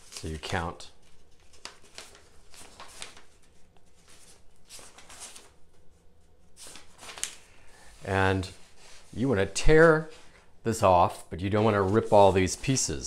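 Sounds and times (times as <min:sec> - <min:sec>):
paper sheets rustling: 0:00.0 - 0:10.5, 0:11.4 - 0:13.0.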